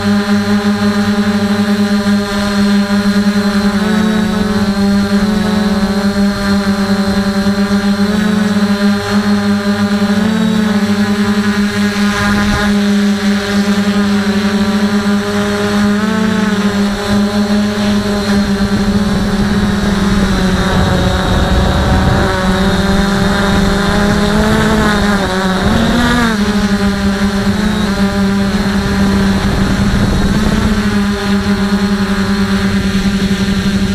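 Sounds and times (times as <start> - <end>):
quadcopter motors buzzing: 0.0 - 33.9.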